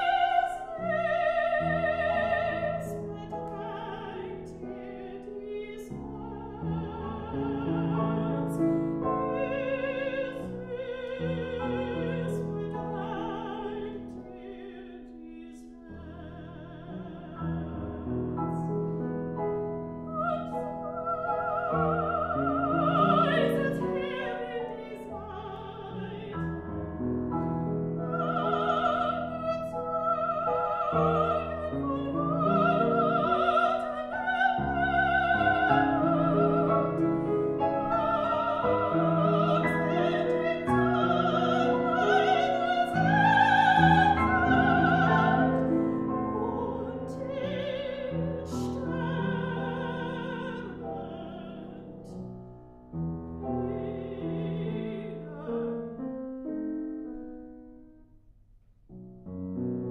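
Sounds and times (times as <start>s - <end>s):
soprano singing with vibrato: 0.0s - 18.8s, 20.0s - 52.1s, 53.5s - 56.0s
grand piano: 0.0s - 59.9s.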